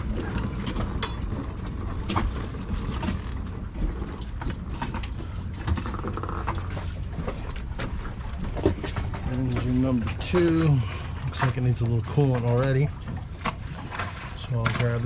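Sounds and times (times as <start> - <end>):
boat hardware clicks and knocks: 0.0 - 15.0
steady low hum: 0.0 - 15.0.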